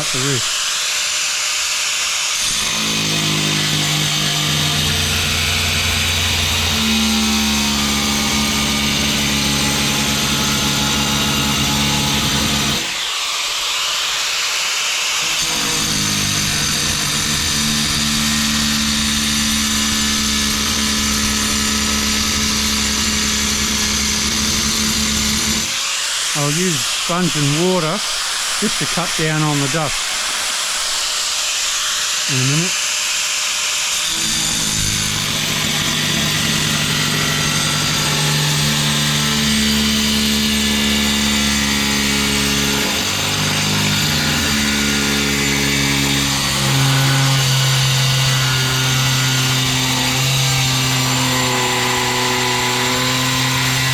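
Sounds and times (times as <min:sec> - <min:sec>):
angle grinder cutting tile: 0:00.0 - 0:53.9.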